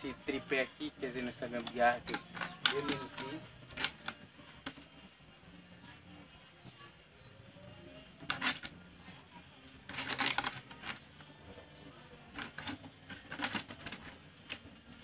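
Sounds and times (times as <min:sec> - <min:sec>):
small hard objects clinking: 0:00.0 - 0:05.8, 0:06.6 - 0:15.0.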